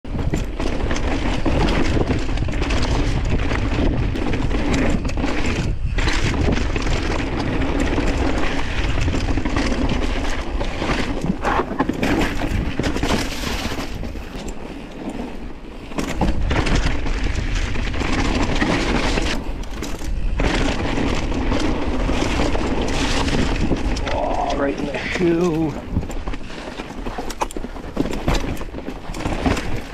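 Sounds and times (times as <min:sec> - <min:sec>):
bike rattling over bumps: 0:00.1 - 0:29.9
bike tyres rolling on gravel: 0:00.1 - 0:29.9
wind buffeting microphone: 0:00.1 - 0:29.9.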